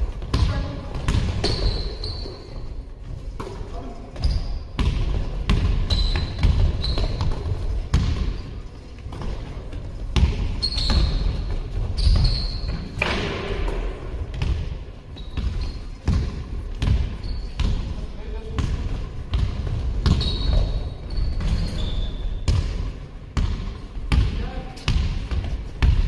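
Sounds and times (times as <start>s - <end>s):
sneakers squeaking: 0.1s - 26.0s
basketball bouncing on floor: 0.2s - 1.9s, 4.2s - 8.4s, 9.1s - 17.9s, 18.5s - 21.6s, 22.4s - 26.0s.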